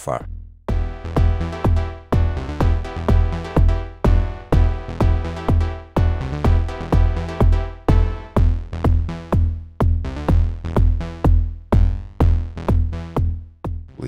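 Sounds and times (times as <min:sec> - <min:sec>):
synth bass and chords: 0:00.7 - 0:13.4
synthesized kick drum: 0:00.7 - 0:14.0.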